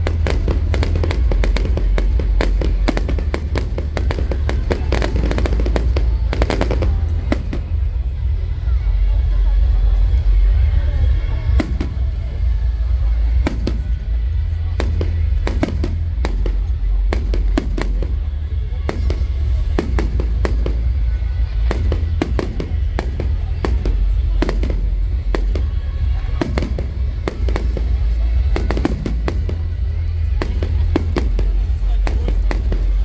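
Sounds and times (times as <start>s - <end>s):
fireworks banging and crackling: 0.0s - 33.0s
low rumble: 0.0s - 33.0s.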